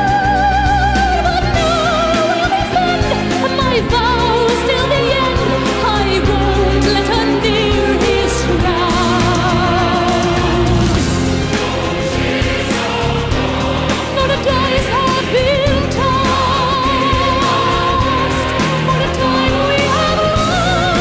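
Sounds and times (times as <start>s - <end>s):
soprano singing with vibrato: 0.0s - 11.8s, 13.9s - 21.0s
instrumental backing with low bass: 0.0s - 21.0s.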